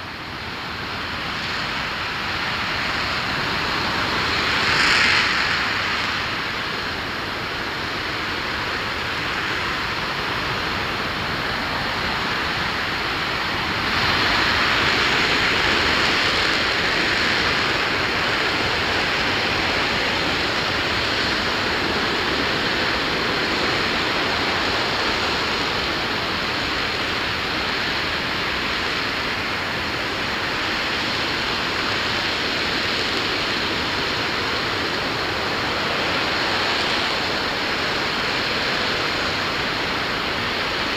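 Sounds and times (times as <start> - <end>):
rocket engine roaring: 0.0 - 40.9.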